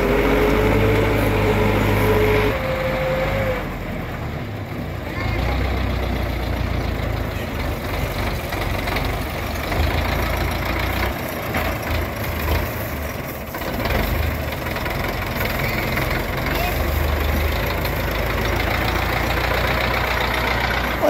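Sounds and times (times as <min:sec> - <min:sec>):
rotor churning soil: 0:00.0 - 0:04.4, 0:05.2 - 0:21.0
tractor diesel engine under load: 0:00.0 - 0:21.0.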